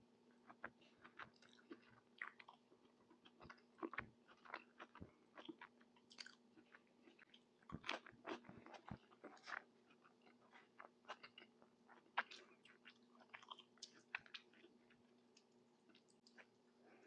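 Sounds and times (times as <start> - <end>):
small food crunches: 0.4 - 16.6
close chewing with wet mouth clicks: 0.4 - 16.7.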